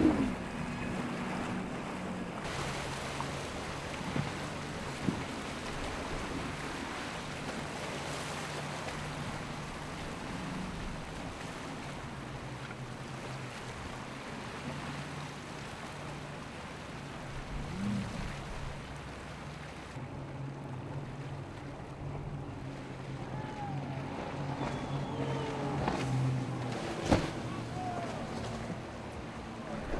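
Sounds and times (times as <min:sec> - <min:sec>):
waves and spray hissing: 0:00.0 - 0:20.0, 0:22.0 - 0:29.9
outboard engine drone: 0:00.0 - 0:29.9.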